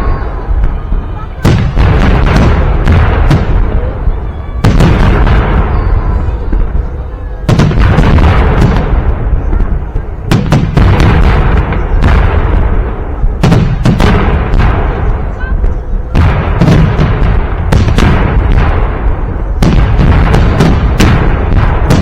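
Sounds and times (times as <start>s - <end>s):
fireworks booming bangs: 0.0s - 22.0s.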